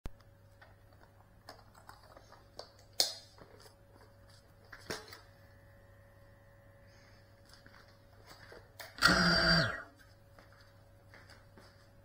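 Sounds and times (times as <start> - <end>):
faint steady hum: 0.1 - 12.0.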